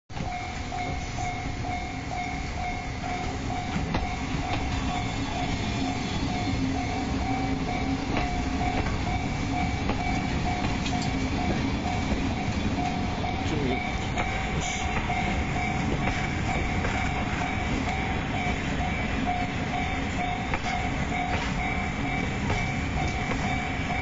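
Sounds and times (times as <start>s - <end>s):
level-crossing warning bell ringing: 0.1s - 24.0s
low rumble of locomotive: 0.1s - 24.0s.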